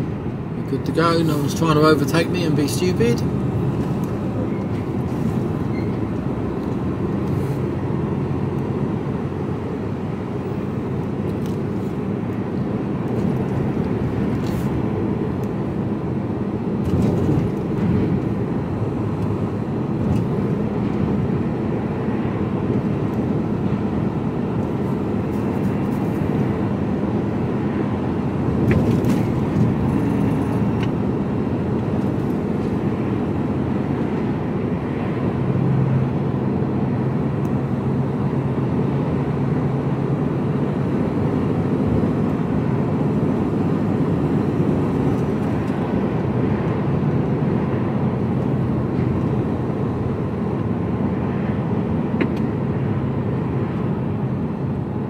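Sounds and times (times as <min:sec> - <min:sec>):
road noise: 0:00.0 - 0:55.0
truck diesel engine cruising: 0:00.0 - 0:55.0.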